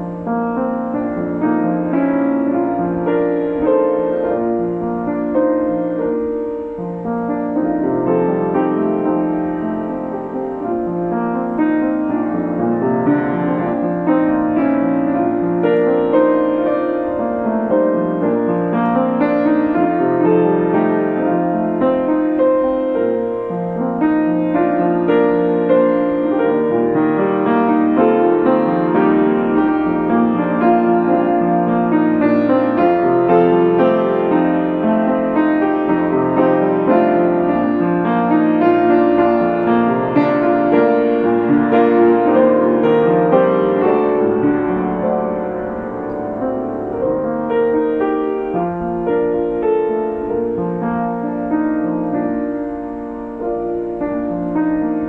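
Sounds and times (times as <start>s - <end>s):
upright piano playing hymn: 0.0s - 55.0s.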